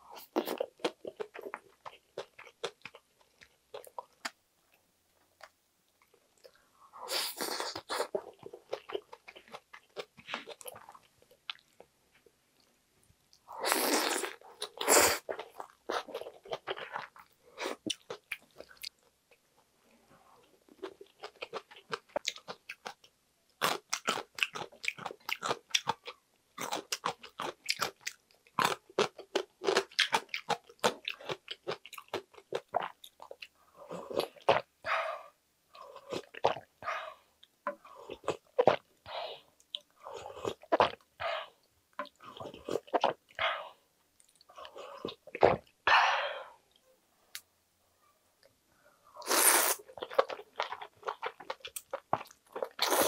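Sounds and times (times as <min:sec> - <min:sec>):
chewing and crunching food: 0:00.1 - 0:04.4, 0:05.4 - 0:19.7, 0:20.4 - 0:45.8, 0:49.8 - 0:53.0.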